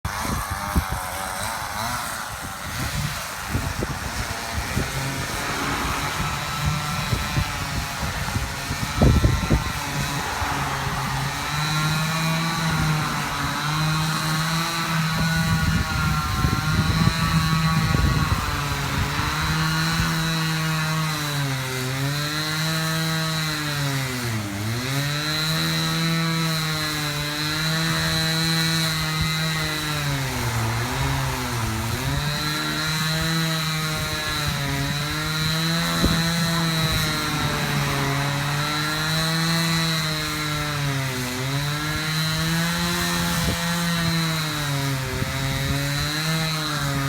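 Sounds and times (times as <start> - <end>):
chainsaw cutting wood: 0.0 - 47.0.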